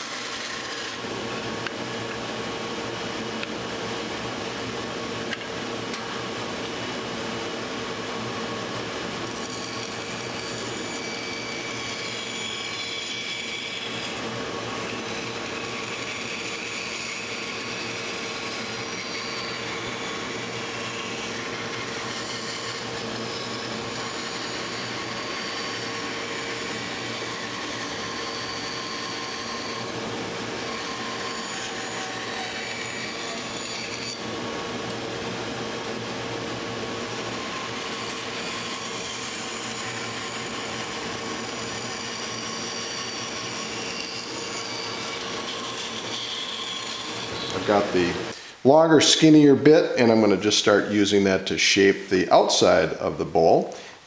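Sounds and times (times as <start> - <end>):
bandsaw cutting wood: 0.0 - 53.8.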